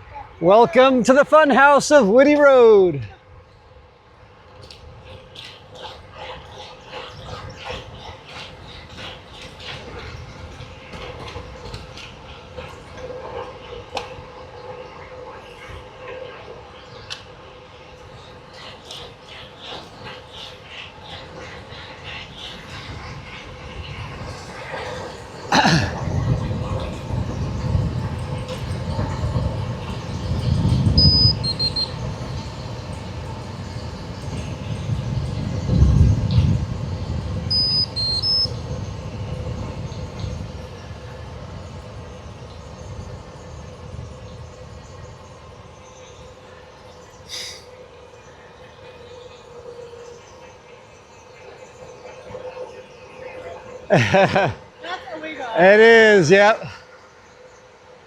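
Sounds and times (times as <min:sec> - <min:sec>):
rumble of road and wind: 0:00.0 - 0:56.2.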